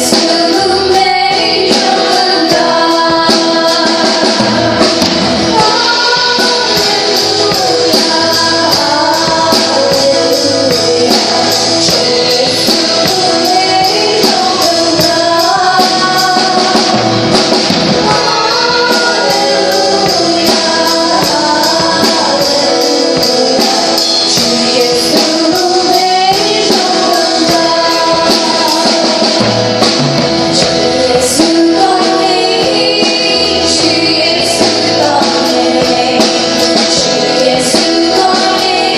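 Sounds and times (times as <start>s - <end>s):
voices singing: 0.0s - 38.9s
worship band playing: 0.0s - 38.9s.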